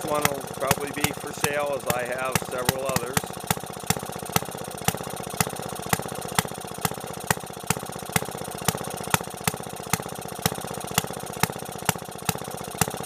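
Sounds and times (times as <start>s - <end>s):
sharp engine cracks: 0.0s - 11.1s
two-stroke engine running: 0.0s - 13.0s.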